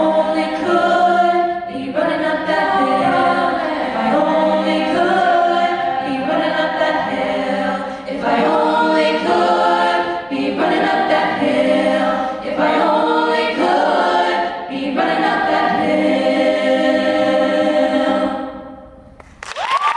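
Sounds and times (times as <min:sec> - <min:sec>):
a cappella vocal ensemble: 0:00.0 - 0:19.0.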